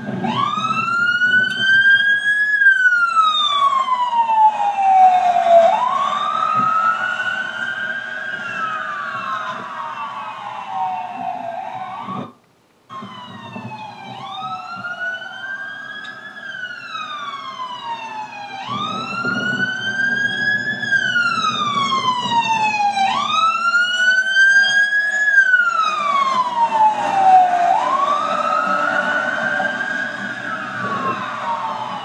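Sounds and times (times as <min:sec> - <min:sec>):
truck engine and tyre noise: 0:00.0 - 0:12.0, 0:13.0 - 0:32.0
fire engine siren wailing: 0:00.0 - 0:32.0.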